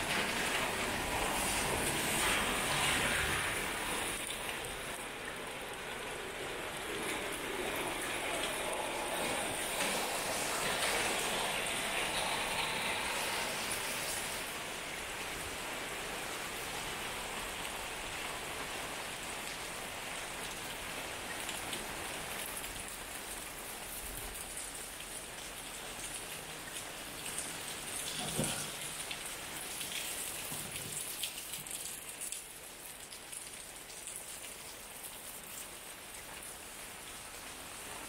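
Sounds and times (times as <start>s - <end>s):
rain falling on wet street: 0.0s - 38.0s.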